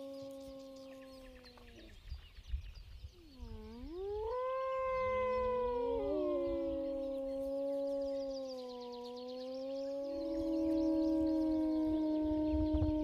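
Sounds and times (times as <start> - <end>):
lower wolf howl: 0.0 - 2.0, 3.2 - 13.0
wolf howling: 0.0 - 2.0, 3.2 - 13.0.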